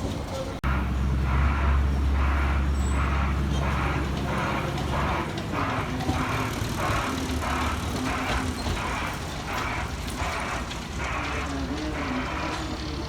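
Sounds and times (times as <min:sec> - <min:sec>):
hissing locomotive chuffs: 0:00.2 - 0:13.0.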